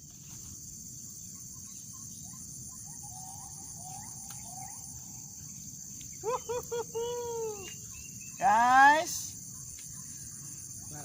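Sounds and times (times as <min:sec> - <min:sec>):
high-pitched insect drone: 0:00.0 - 0:11.0
faint short chirping calls: 0:01.0 - 0:11.0.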